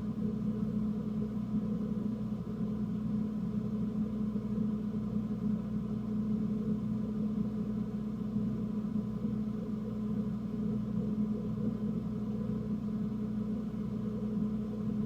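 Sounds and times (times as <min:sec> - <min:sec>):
motor humming steadily: 0:00.0 - 0:15.0.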